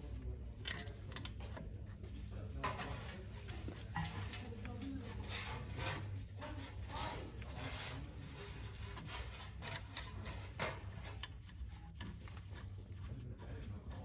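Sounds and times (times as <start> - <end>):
light scrapes: 2.6 - 14.0.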